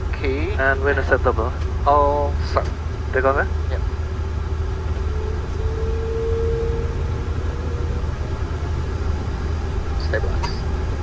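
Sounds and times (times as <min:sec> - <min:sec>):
faint engine whine: 0:00.0 - 0:11.0
jet engines low rumble: 0:00.0 - 0:11.0.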